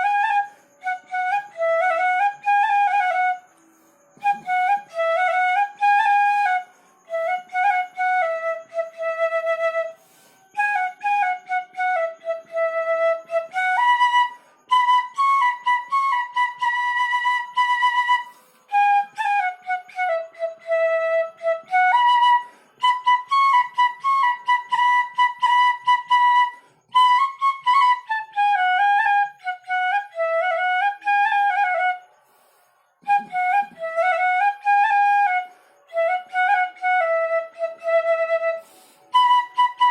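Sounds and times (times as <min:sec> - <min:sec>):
bamboo flute melody: 0:00.0 - 0:39.9.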